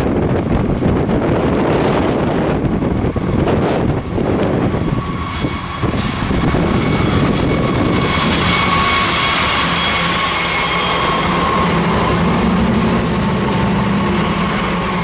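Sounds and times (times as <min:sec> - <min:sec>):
diesel locomotive engines running: 0:00.0 - 0:15.0
wheels rolling on rails: 0:00.0 - 0:15.0
wind buffeting microphone: 0:00.0 - 0:15.0.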